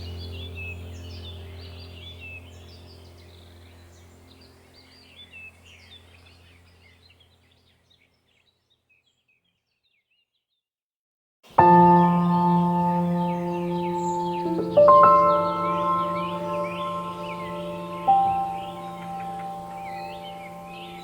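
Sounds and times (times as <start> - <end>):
steady low hum: 0.0 - 7.5, 11.6 - 21.0
birds chirping: 0.0 - 10.4, 11.5 - 21.0.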